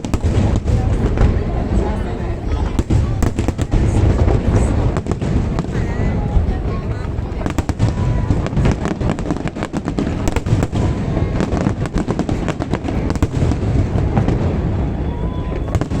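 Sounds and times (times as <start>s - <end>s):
firework bangs and crackling: 0.0s - 16.0s.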